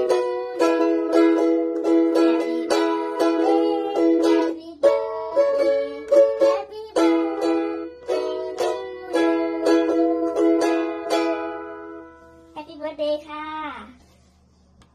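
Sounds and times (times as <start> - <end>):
ukulele strumming: 0.0 - 12.5.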